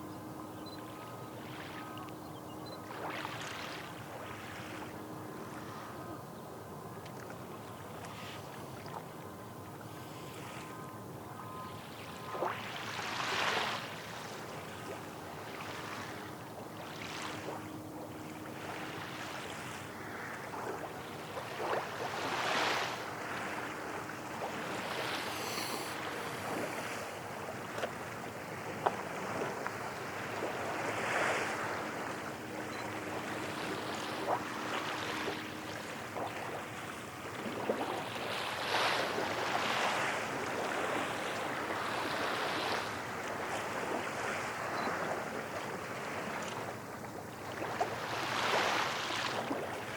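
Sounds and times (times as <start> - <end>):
wind: 0.0 - 49.9
small waves washing on shore: 0.8 - 6.1, 11.6 - 49.9.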